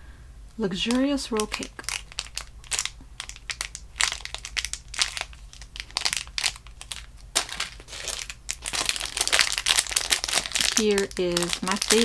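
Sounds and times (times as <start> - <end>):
plastic wrapper crinkling: 0.8 - 12.0.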